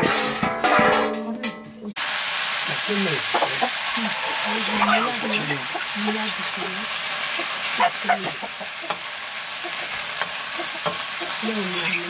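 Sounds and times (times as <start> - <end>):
vegetables sizzling in a wok: 1.9 - 12.0.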